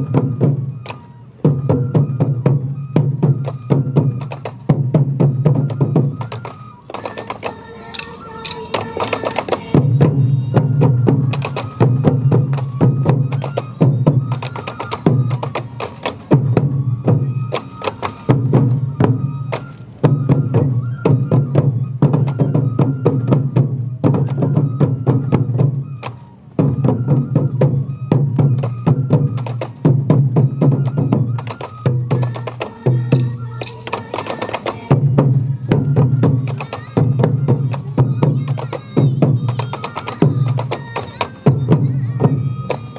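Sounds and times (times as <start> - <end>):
taiko drums beating: 0.0 - 42.9.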